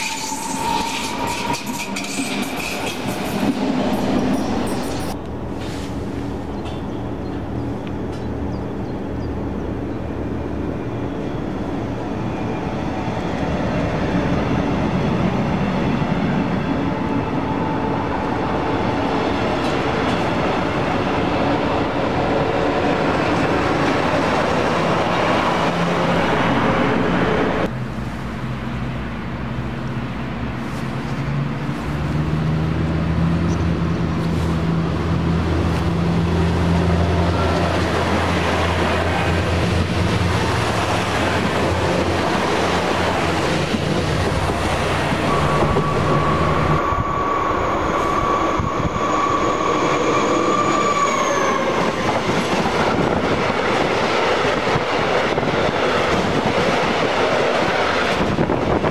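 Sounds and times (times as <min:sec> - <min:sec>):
train wheels rumbling on rails: 0:00.0 - 0:27.8, 0:29.0 - 0:58.9
diesel railcar engine drone: 0:00.0 - 0:58.9.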